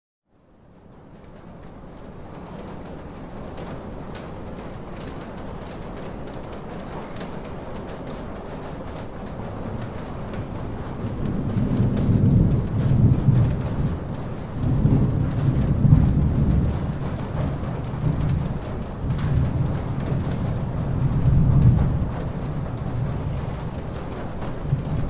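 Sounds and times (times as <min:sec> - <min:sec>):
rain falling in forest: 0:00.3 - 0:25.0
low rolling thunder: 0:01.2 - 0:25.0.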